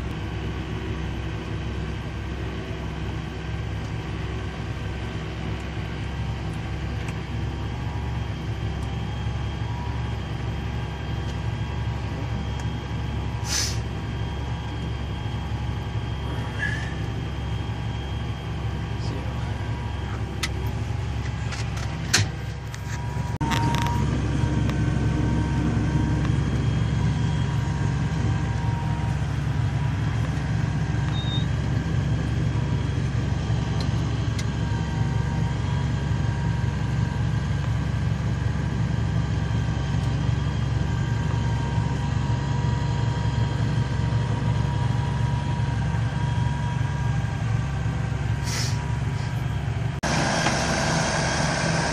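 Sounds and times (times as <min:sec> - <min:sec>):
constant whine: 0:00.0 - 0:51.9
heavy machine engine droning: 0:00.0 - 0:51.9.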